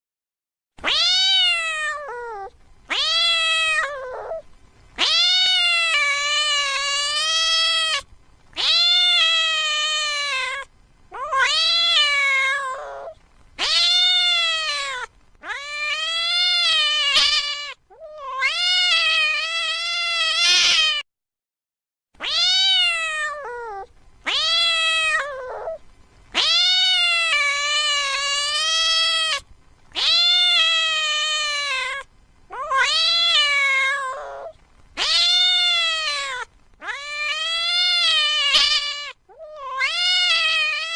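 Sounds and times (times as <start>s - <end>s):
cat meowing: 0.8s - 4.4s, 5.0s - 21.0s, 22.2s - 40.9s.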